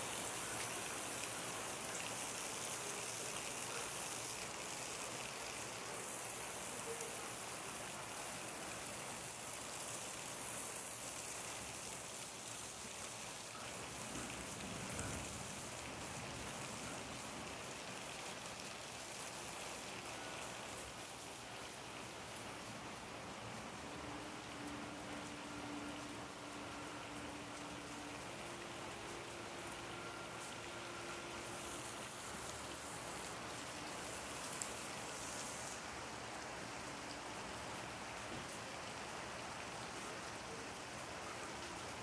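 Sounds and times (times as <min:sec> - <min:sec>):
steady rain on pavement: 0:00.0 - 0:42.0.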